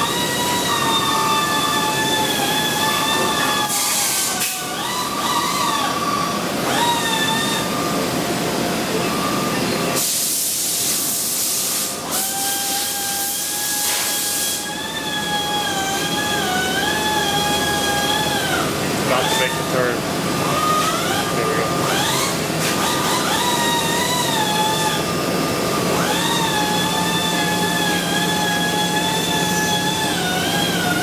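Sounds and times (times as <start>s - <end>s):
mill motor whine: 0.0s - 31.0s.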